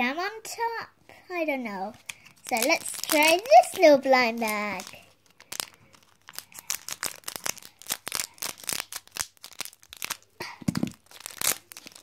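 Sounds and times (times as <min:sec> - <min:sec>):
foil bag crinkling: 0:02.1 - 0:12.0.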